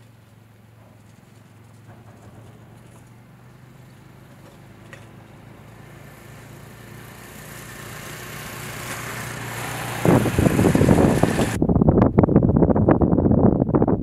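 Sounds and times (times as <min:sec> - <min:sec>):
small motorcycle engines running: 0:00.0 - 0:11.6.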